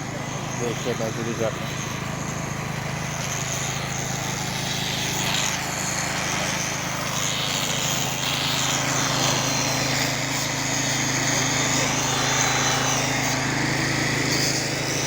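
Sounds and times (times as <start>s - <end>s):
machine engine running: 0.0s - 15.0s
hiss: 0.4s - 15.0s.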